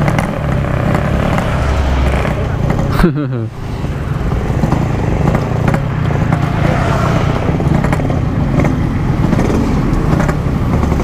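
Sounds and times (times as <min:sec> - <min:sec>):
motorcycle engines idling: 0:00.0 - 0:06.7, 0:07.4 - 0:11.0.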